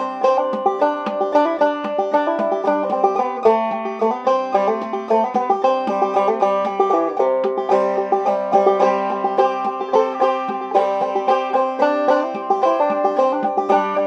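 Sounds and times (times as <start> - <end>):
banjo playing old-time tune: 0.0 - 14.0.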